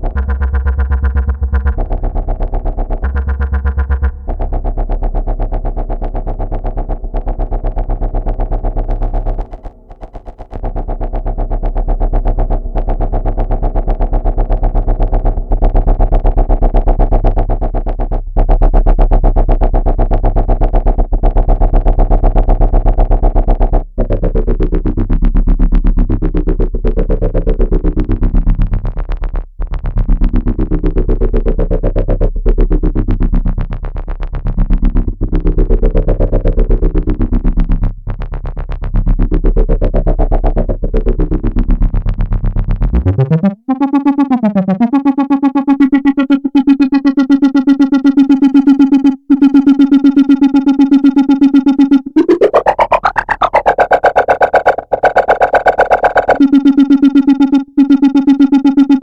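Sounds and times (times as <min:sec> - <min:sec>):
buzzy synthesizer drone: 0:00.0 - 0:59.0.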